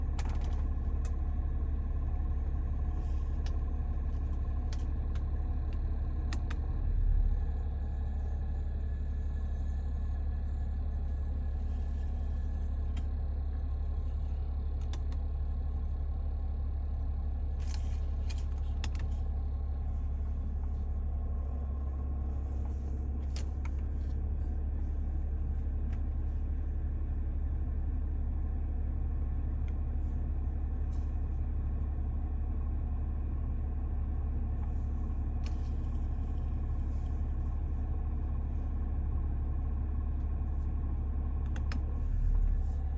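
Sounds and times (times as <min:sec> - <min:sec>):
air conditioning compressor drone: 0:00.0 - 0:42.9.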